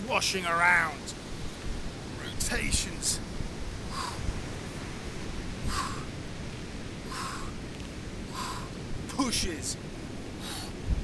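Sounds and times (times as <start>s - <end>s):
surf rumbling: 0.0s - 11.0s
wind: 0.0s - 11.0s.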